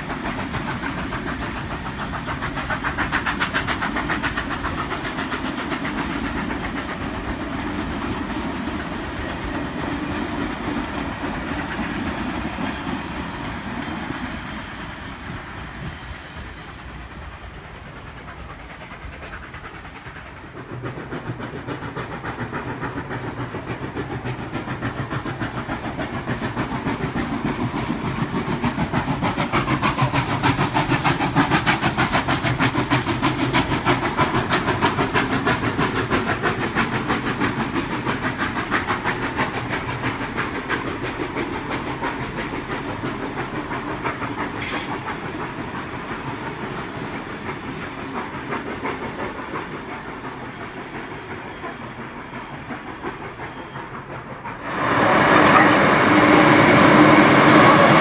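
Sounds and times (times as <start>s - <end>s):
steam hiss: 0.0s - 58.0s
train wheels clattering on rails: 0.0s - 58.0s.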